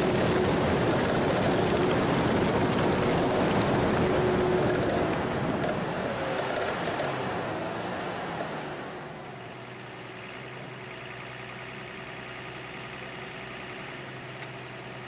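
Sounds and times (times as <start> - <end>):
truck engine and tyre noise: 0.0 - 15.0.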